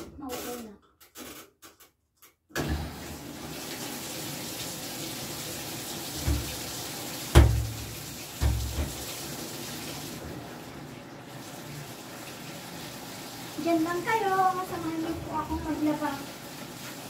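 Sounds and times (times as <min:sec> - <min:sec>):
washing machine filling with water: 0:02.6 - 0:17.0.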